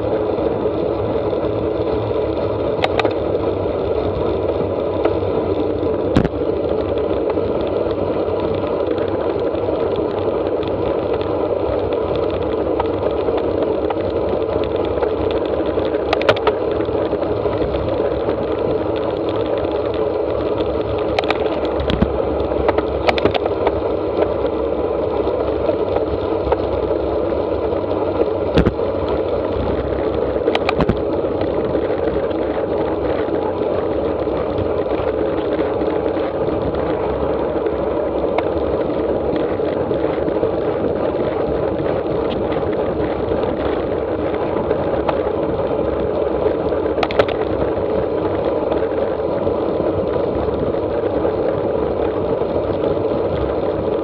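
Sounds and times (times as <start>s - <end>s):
tyres on road: 0.0s - 54.0s.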